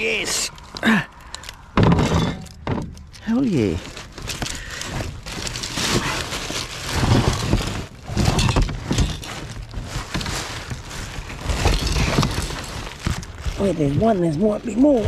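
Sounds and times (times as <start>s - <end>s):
plastic bags crinkling: 0.0s - 15.0s
knocks and scrapes of rubbish: 1.7s - 15.0s.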